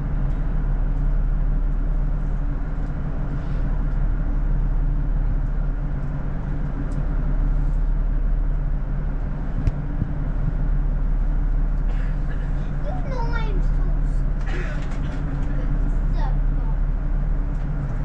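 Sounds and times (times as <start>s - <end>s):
train engine drone and running noise: 0.0s - 18.0s.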